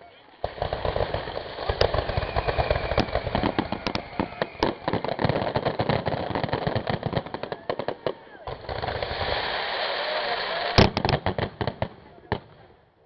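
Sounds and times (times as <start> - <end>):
fireworks bangs and crackles: 0.0 - 12.8.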